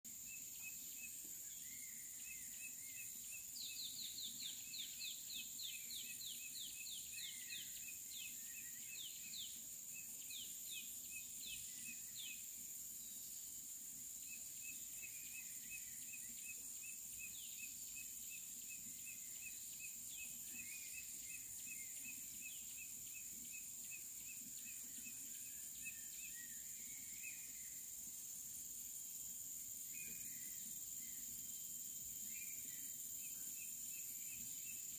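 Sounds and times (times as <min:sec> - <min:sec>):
insect drone: 0:00.1 - 0:34.9.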